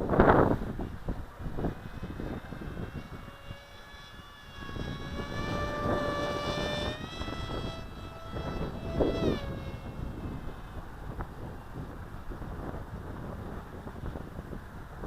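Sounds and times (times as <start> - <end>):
electric motor and propeller whining: 0.0 - 15.0
wind gusting on microphone: 0.0 - 15.0.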